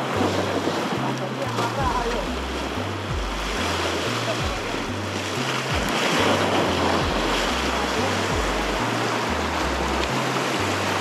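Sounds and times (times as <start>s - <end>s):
music with deep bass notes: 0.0s - 11.0s
surf breaking over rocks: 0.0s - 11.0s.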